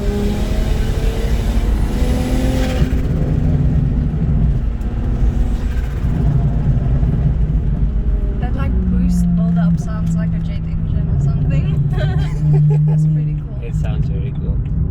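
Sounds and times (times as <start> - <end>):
turbocharged car engine accelerating: 0.0 - 14.9.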